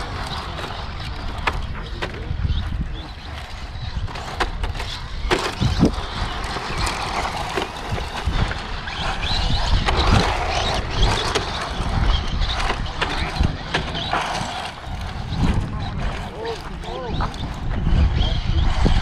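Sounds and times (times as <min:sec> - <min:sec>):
electric motor whining: 0:00.0 - 0:19.0
tyres scrabbling on loose dirt: 0:00.0 - 0:19.0.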